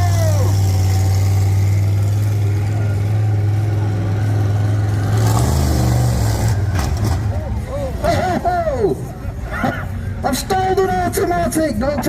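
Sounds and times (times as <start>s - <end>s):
truck engine running hard: 0.0s - 11.5s.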